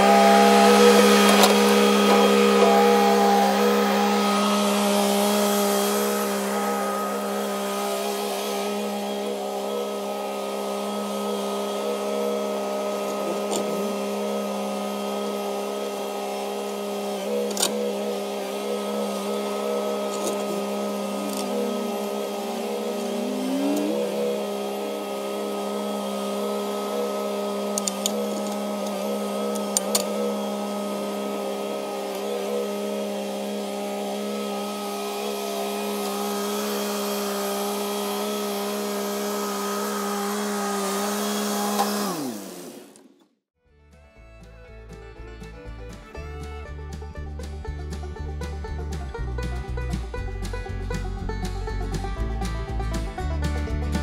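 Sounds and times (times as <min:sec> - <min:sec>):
tractor diesel engine under load: 0:00.0 - 0:43.2, 0:44.4 - 0:54.0.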